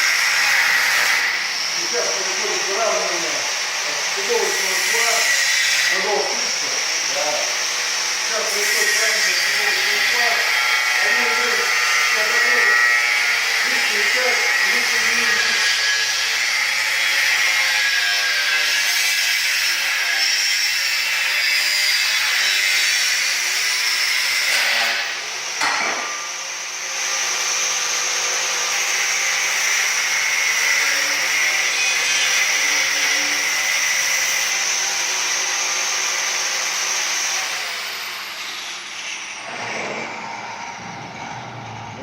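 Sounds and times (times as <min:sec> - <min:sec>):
power tool rasping on metal: 0:00.0 - 0:42.0.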